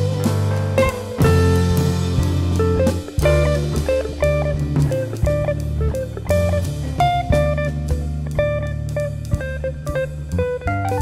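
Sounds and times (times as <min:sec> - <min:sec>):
guitar bass and drums music: 0:00.0 - 0:11.0.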